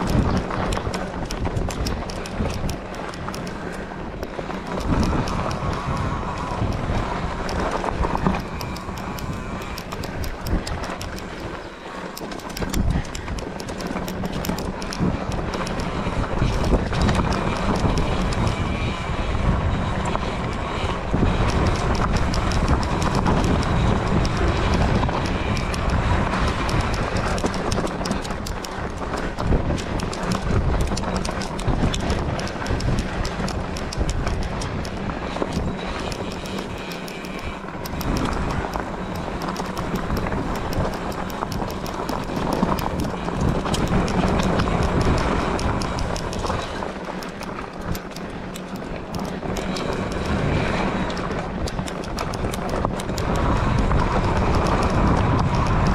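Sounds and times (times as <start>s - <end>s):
knocks and crunches on dirt trail: 0.0s - 55.9s
wind buffeting microphone: 0.0s - 55.9s.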